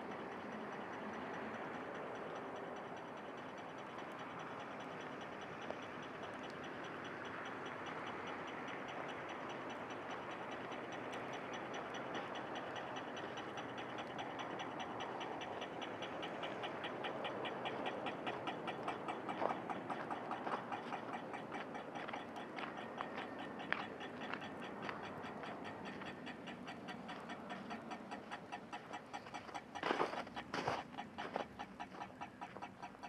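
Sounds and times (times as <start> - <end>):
crossing signal ticking: 0.0 - 33.0
street noise hiss: 0.0 - 33.0.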